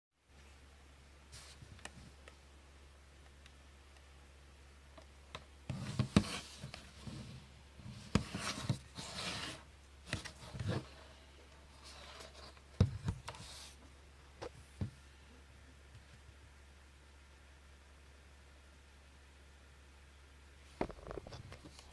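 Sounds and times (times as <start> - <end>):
low steady hum: 0.2 - 21.9.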